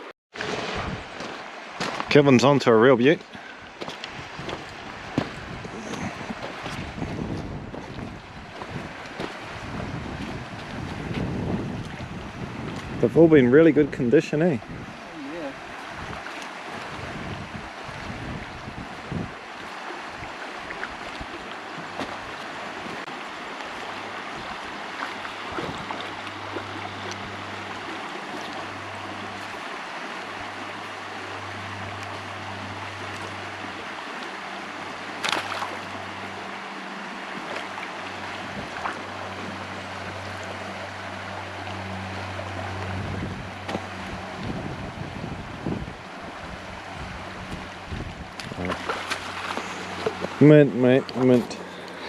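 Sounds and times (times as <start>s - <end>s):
river water flowing over stones: 0.0s - 52.0s.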